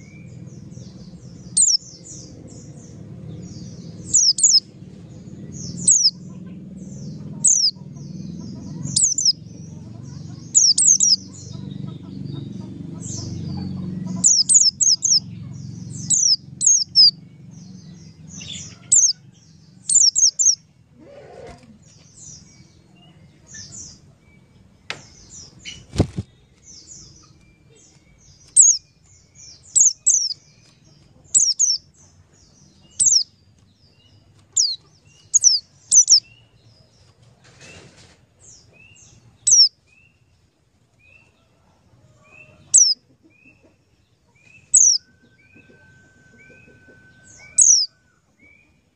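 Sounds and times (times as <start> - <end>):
bird chirping: 0.0 - 48.9.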